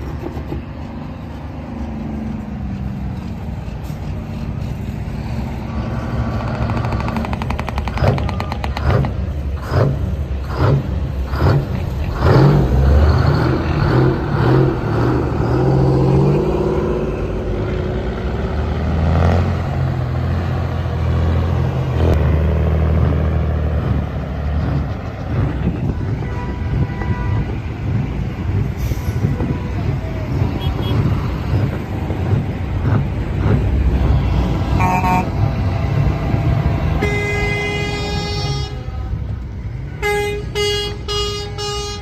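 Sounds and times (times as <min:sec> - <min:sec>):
heavy vehicle engine under load: 0:00.0 - 0:42.0.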